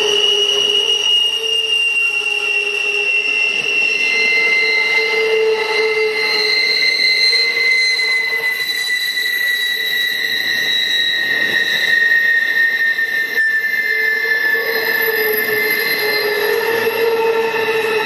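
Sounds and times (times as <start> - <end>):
rumble of rolling train cars: 0.0 - 18.0
train wheels squealing on rail: 0.0 - 18.0.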